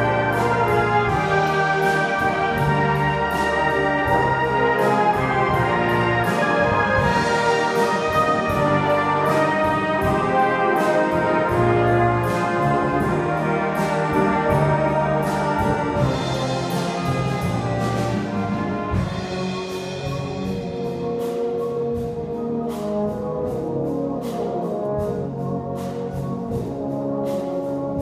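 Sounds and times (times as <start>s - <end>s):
brass band playing: 0.0s - 28.0s.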